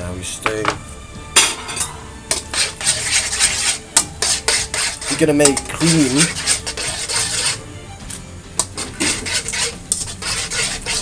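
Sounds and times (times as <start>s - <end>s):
utensil scraping a pan: 1.4s - 7.8s, 8.6s - 11.0s.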